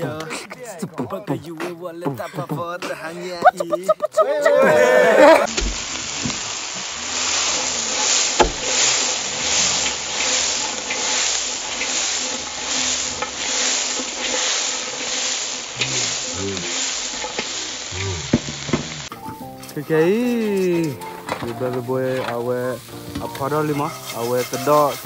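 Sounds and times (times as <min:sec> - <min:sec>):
stir-fry sizzling in a wok: 0:04.6 - 0:25.0.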